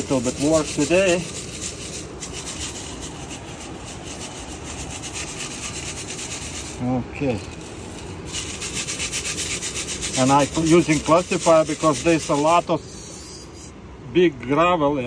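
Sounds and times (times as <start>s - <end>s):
gravel rasping in a shaken sieve: 0.0s - 13.7s.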